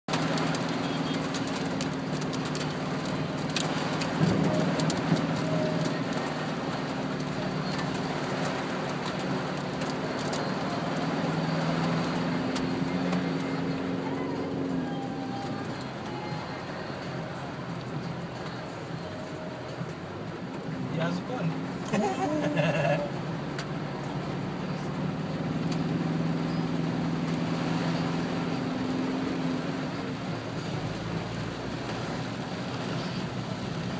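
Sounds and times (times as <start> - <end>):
car engine humming: 0.1 - 33.9
heavy rain on car roof: 0.1 - 33.9
sharp ticks of raindrops: 0.1 - 33.9.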